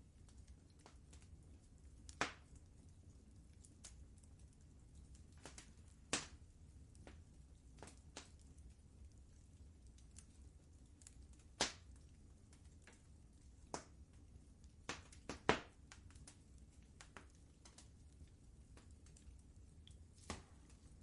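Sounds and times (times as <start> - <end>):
fire crackling and popping: 0.0 - 21.0
low steady rumble: 0.0 - 21.0.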